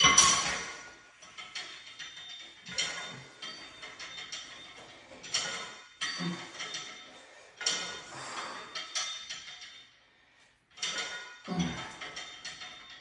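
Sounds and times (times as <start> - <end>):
gym weight stack clinking: 0.0 - 13.0.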